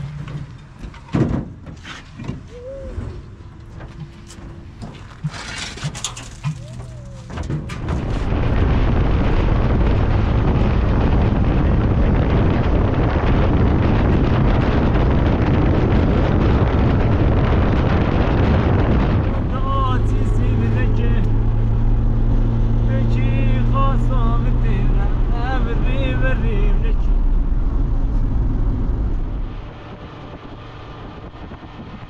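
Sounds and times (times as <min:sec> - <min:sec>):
vehicle engine running: 0:06.3 - 0:32.0.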